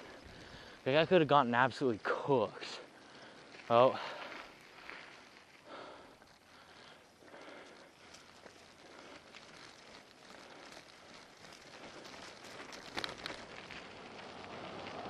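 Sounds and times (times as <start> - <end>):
bicycle tyres rolling: 0.0 - 15.0.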